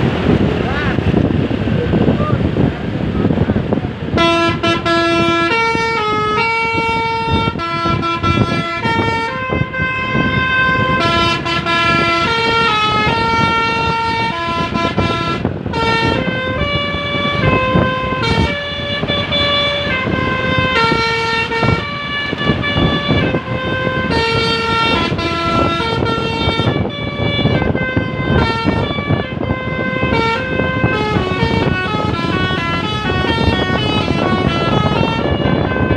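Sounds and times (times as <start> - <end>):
musical bus air horn tune: 4.1 - 35.9.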